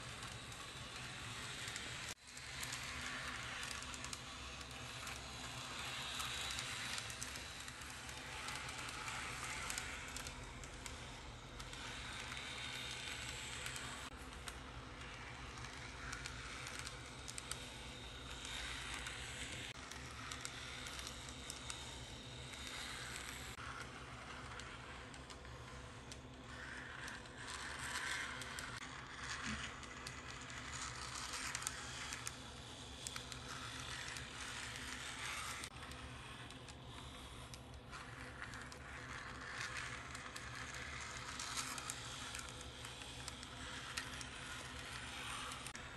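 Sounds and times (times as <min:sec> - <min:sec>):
small electric motor whirring: 0:00.0 - 0:45.9.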